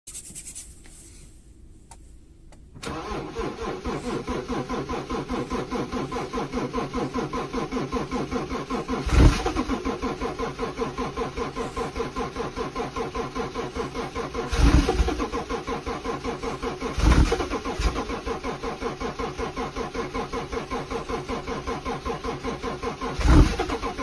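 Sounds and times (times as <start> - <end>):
engine chugging: 2.8 - 24.0.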